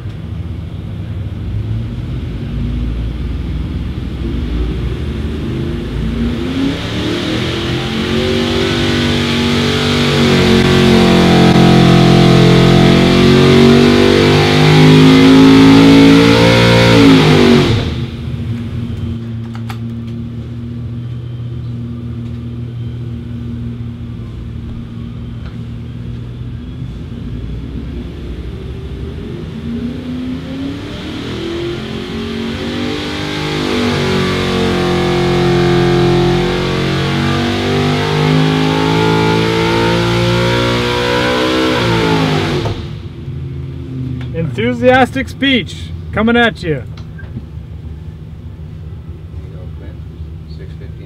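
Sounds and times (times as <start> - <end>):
engine running on dynamometer: 1.3 - 45.3.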